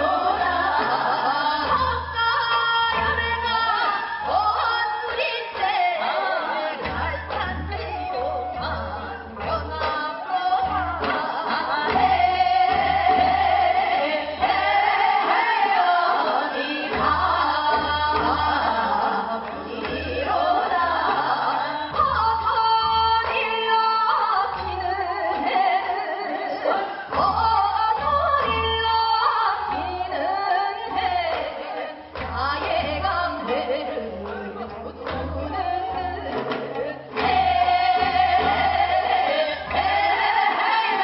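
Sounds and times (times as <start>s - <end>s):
traditional instruments accompanying: 0.0s - 41.0s
women singing folk song: 0.0s - 41.0s.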